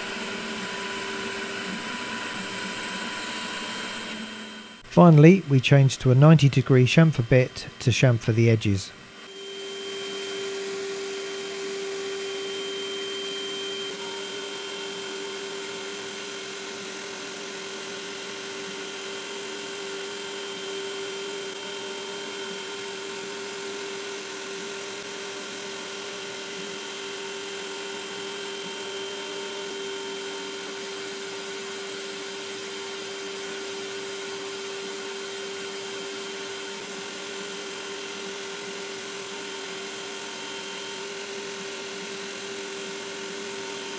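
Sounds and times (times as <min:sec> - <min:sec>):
cnc spindle high whine: 0:00.0 - 0:43.9.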